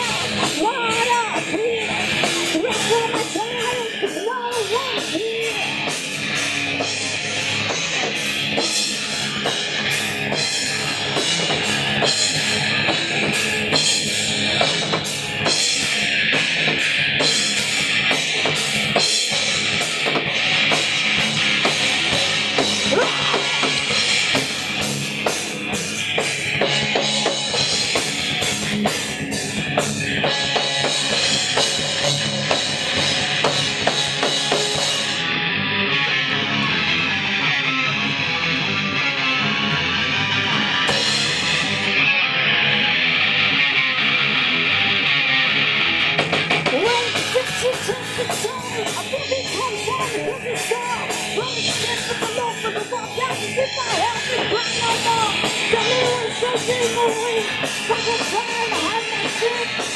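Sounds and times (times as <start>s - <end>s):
drum kit drumming: 0.0s - 35.4s, 38.2s - 42.0s, 45.9s - 59.9s
electric guitar: 0.0s - 59.9s.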